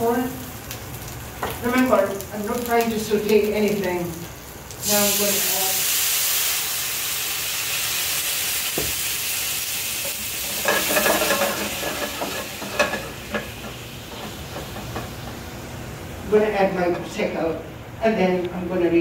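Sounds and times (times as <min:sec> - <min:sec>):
wine sizzling in a hot pan: 0:00.0 - 0:17.6.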